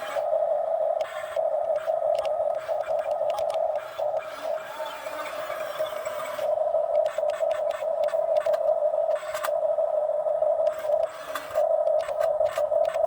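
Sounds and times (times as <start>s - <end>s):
excavator engine drone: 0.0s - 13.0s.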